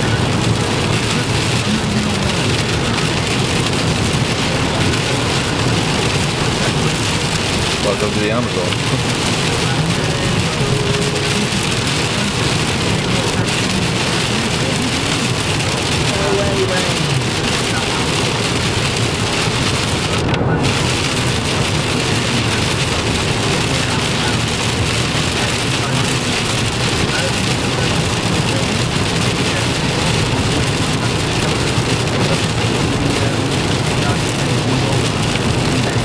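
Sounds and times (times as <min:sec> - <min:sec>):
heavy rain on car windscreen: 0:00.0 - 0:36.0
tyre and road noise: 0:00.0 - 0:36.0.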